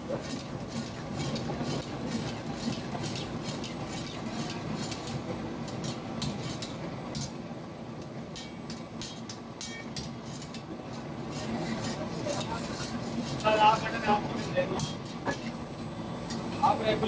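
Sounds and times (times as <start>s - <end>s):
metal spatula scraping a wok: 0.0s - 7.4s, 8.3s - 15.6s
kitchen hubbub: 0.0s - 17.0s.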